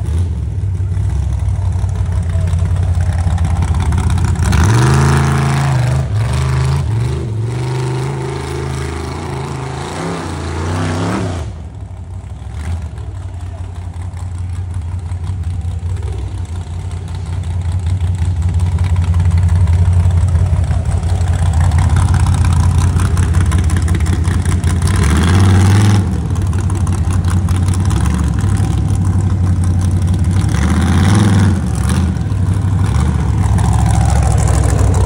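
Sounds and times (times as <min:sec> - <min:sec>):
engine running rough with revs: 0:00.0 - 0:35.0.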